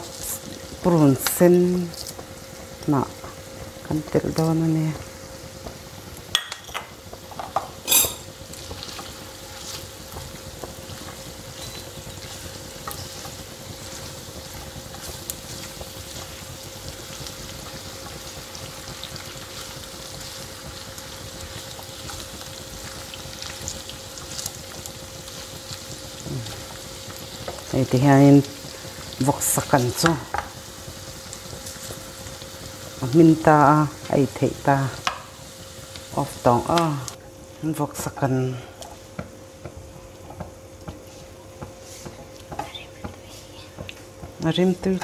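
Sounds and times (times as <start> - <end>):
food sizzling in a wok: 0.0 - 45.0.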